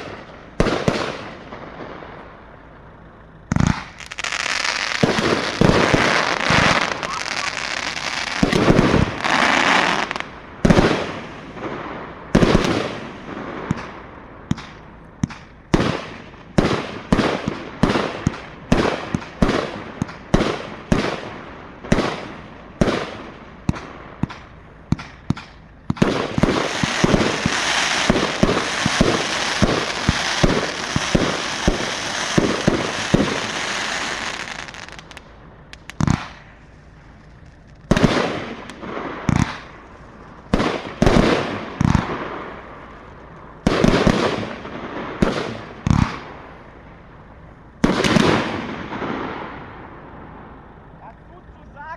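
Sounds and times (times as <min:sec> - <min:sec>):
firework crackling: 0:00.0 - 0:51.9
firework shots banging: 0:00.0 - 0:51.9.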